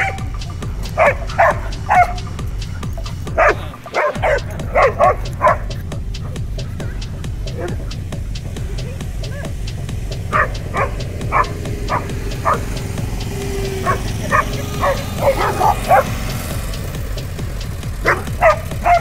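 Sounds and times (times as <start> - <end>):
dog yapping: 0.0 - 16.4, 18.0 - 19.0
steady low rumble: 0.0 - 19.0.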